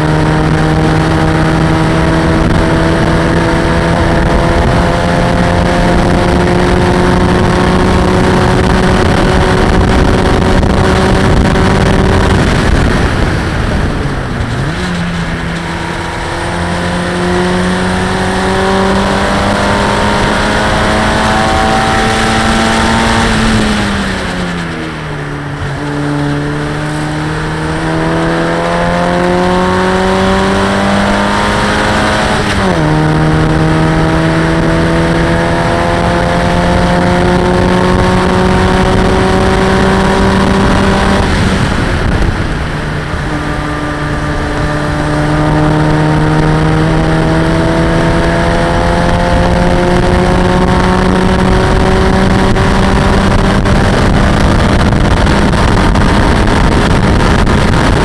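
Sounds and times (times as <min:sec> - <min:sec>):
racing car engine at full throttle: 0:00.0 - 0:58.0
road noise: 0:00.0 - 0:58.0
wind noise: 0:00.0 - 0:58.0.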